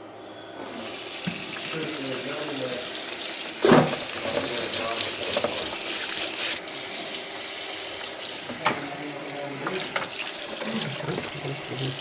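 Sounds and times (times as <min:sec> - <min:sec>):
tap water running into sink: 0:00.7 - 0:12.0.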